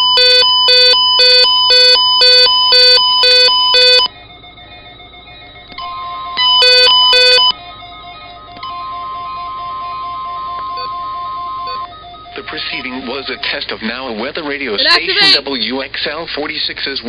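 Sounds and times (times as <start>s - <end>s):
harsh electronic alert beeps: 0.0s - 15.6s
steady alert tone: 1.2s - 15.4s.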